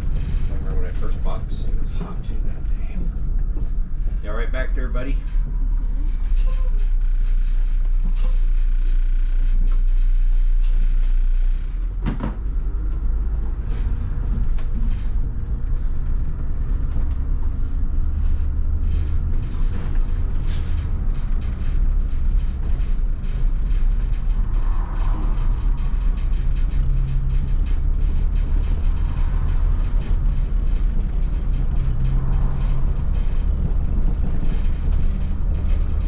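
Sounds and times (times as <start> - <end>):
diesel engine rumbling: 0.0 - 36.0
light rattles: 0.0 - 36.0.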